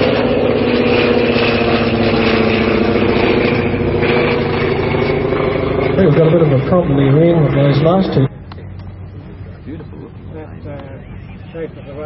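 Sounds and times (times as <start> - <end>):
radial aircraft engine running: 0.0 - 12.0.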